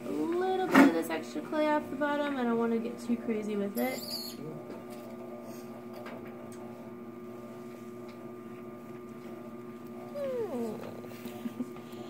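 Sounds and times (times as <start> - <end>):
pottery wheel motor humming: 0.0 - 12.0.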